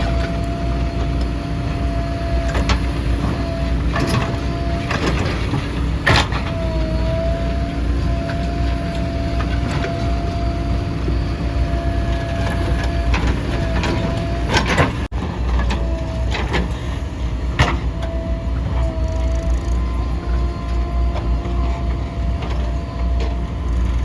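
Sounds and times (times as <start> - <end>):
diesel engine under load: 0.0 - 24.0
steady engine whine: 0.0 - 24.0.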